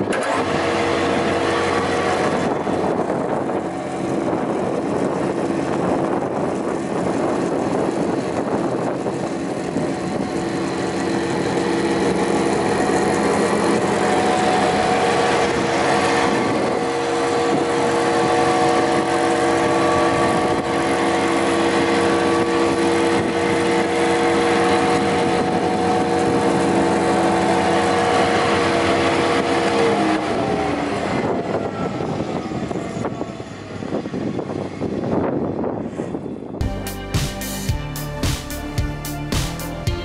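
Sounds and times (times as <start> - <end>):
machine motor hum and whine: 0.0 - 36.6.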